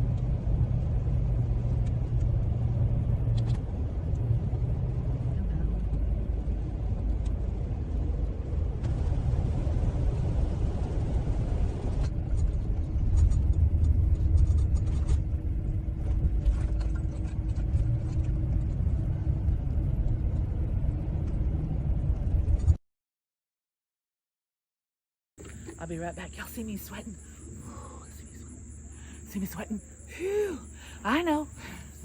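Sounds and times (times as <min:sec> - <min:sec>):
van engine and tyres rumbling: 0:00.0 - 0:22.8, 0:25.4 - 0:32.0.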